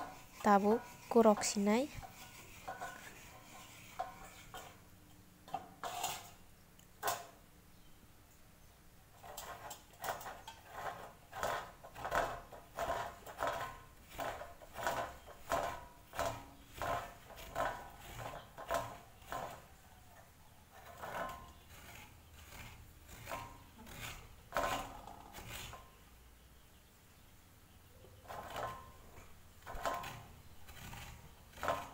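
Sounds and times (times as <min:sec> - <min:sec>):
coconut grating scrapes: 0:00.0 - 0:04.9, 0:05.5 - 0:06.4, 0:09.1 - 0:26.1, 0:28.2 - 0:31.9.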